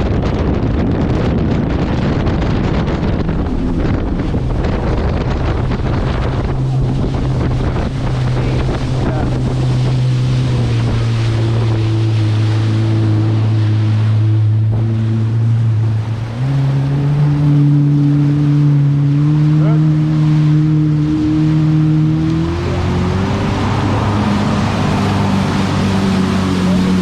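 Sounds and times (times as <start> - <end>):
motor boat engine hum: 0.0 - 27.0
water waves: 0.0 - 27.0
wind buffeting microphone: 0.0 - 27.0.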